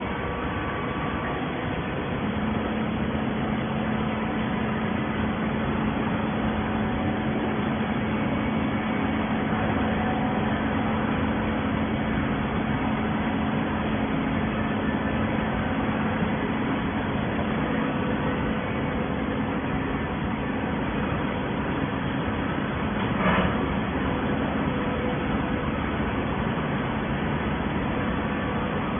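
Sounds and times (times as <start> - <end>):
hydraulic baler running: 0.0 - 28.9.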